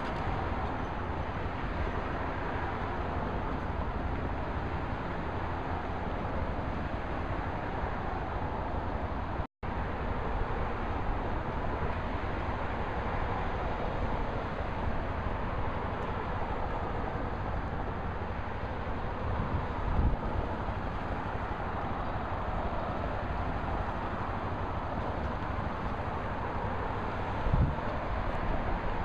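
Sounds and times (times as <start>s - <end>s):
wind rumbling on microphone: 0.0s - 29.0s.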